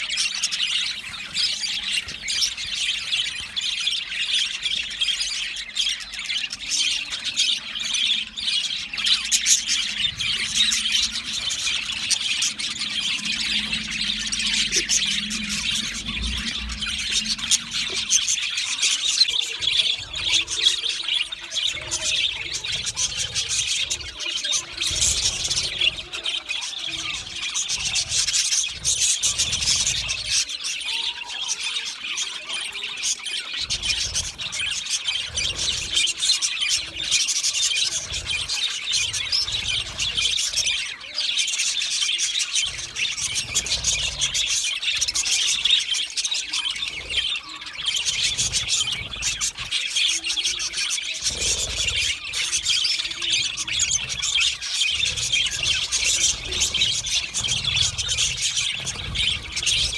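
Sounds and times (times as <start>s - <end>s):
budgerigars chirping and warbling: 0.0s - 59.9s.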